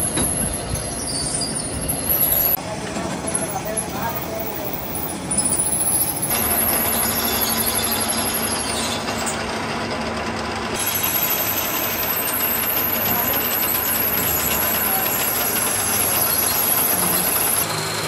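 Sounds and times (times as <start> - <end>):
metal lathe machining grind: 3.4 - 18.0.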